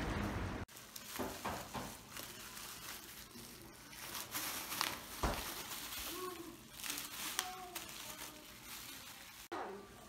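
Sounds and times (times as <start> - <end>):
cardboard and plastic rustling: 0.7 - 9.5.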